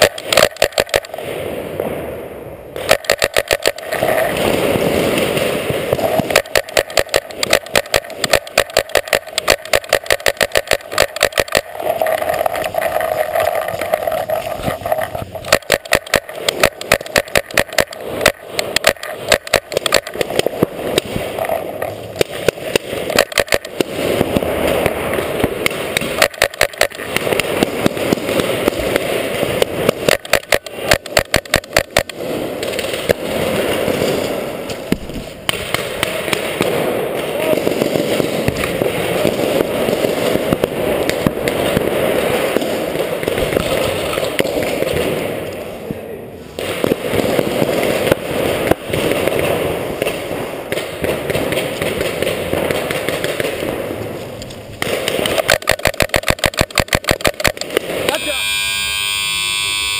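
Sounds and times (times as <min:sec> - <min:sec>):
paintball markers firing: 0:00.0 - 0:01.2, 0:02.8 - 0:45.2, 0:46.6 - 0:58.4.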